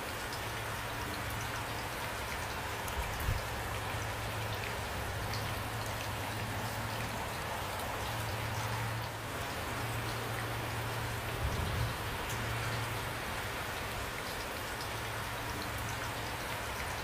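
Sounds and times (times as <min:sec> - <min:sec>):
rain drops ticking: 0:00.0 - 0:17.0.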